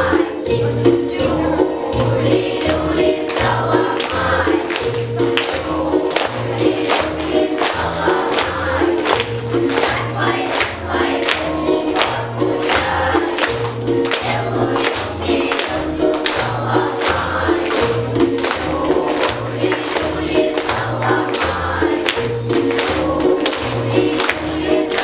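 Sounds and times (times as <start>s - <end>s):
children's choir singing: 0.0s - 25.0s
repeating bass line: 0.0s - 25.0s
steady drum beat: 1.3s - 25.0s.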